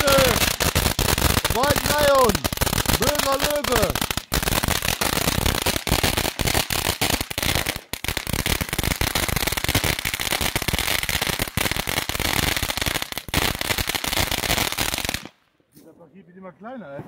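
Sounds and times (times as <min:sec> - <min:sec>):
firework fountain crackling and hissing: 0:00.0 - 0:15.4.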